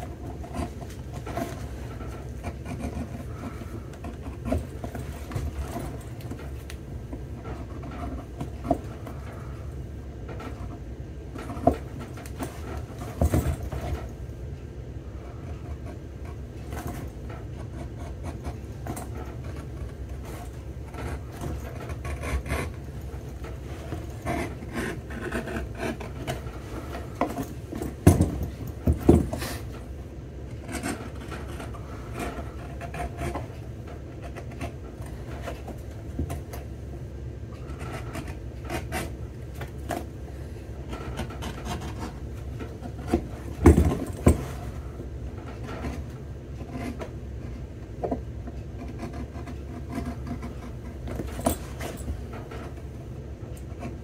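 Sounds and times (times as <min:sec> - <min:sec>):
hand tool scraping leather: 0:00.0 - 0:09.6, 0:15.2 - 0:36.7, 0:37.5 - 0:44.9, 0:45.5 - 0:54.0
steady low hum: 0:00.0 - 0:54.0.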